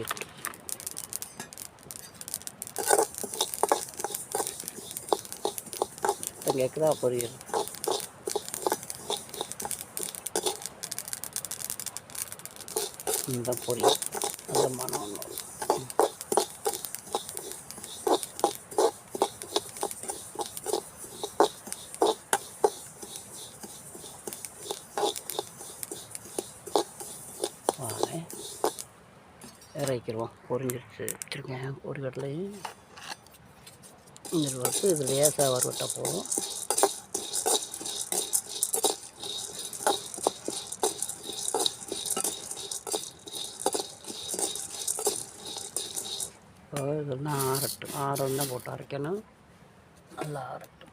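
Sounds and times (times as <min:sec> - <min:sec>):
grains popping in a pan: 0:00.0 - 0:28.9, 0:34.2 - 0:48.8.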